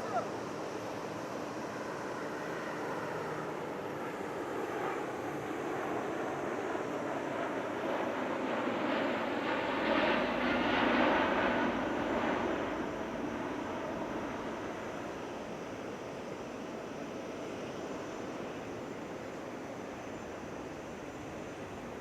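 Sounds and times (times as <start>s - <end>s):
airliner jet engines passing: 0.0s - 22.0s.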